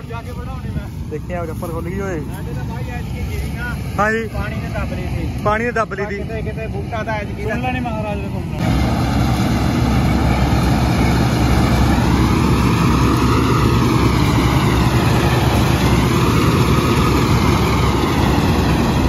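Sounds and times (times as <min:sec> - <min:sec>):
combine harvester droning: 0:00.0 - 0:19.0.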